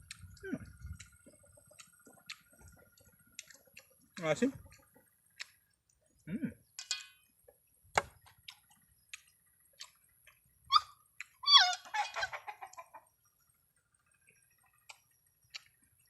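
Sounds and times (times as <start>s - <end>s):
chewing crunchy shell clicks: 0.0s - 11.9s, 14.1s - 16.0s.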